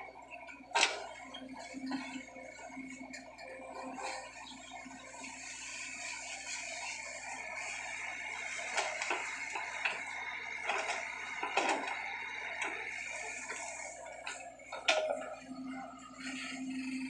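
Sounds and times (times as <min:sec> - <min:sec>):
excavator running hum: 0:00.0 - 0:17.0.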